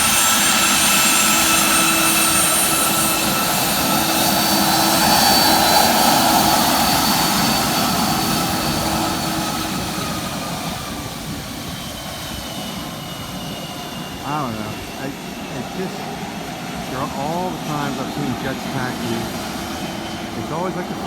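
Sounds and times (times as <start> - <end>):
jet engines roaring with whine: 0.0 - 21.0.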